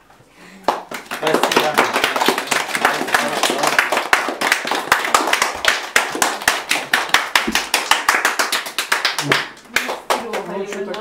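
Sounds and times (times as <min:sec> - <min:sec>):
group clapping in rhythm: 0:00.6 - 0:11.0.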